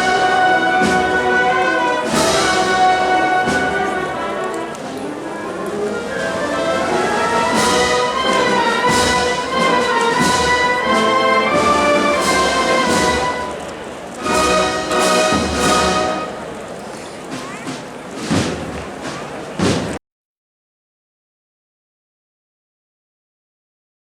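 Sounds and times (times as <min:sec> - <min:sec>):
drum strokes: 0:00.0 - 0:20.0
wind band playing slow march: 0:00.0 - 0:20.0.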